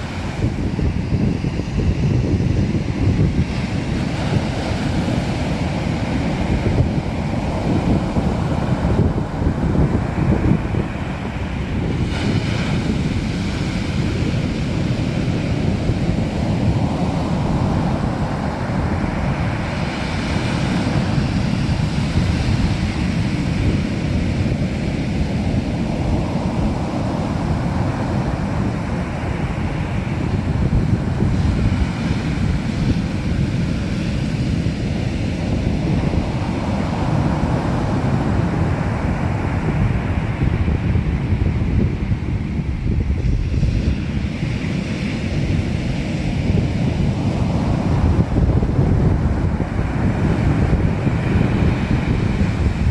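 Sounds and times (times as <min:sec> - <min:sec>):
sea waves breaking on shore: 0:00.0 - 0:52.9
wind rumble on microphone: 0:00.0 - 0:52.9.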